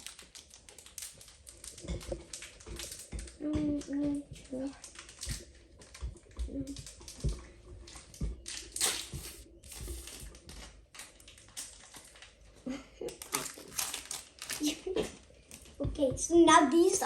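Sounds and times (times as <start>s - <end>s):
foil pack crinkling: 0.0s - 15.8s.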